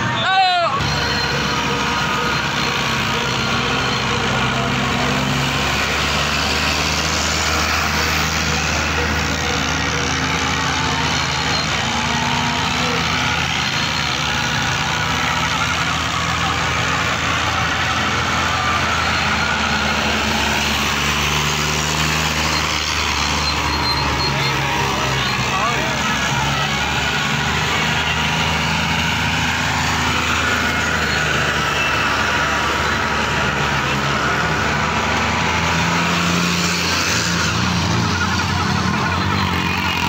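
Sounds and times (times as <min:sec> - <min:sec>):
diesel tractor engines under load: 0:00.0 - 0:40.0
wheels churning through sand: 0:00.8 - 0:40.0.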